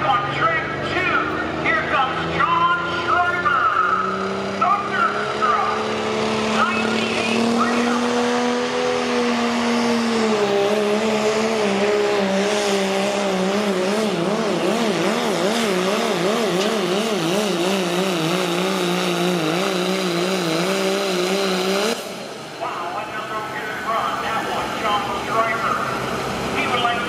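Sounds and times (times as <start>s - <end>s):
diesel truck engine at full throttle: 0.0s - 27.0s.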